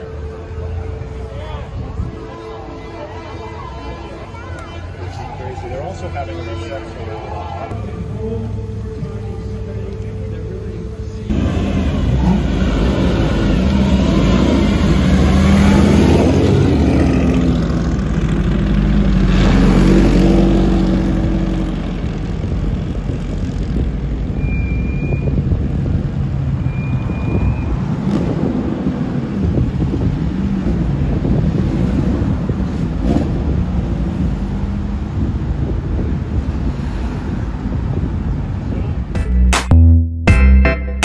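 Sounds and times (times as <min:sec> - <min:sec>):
race car engines revving: 0:00.0 - 0:39.1.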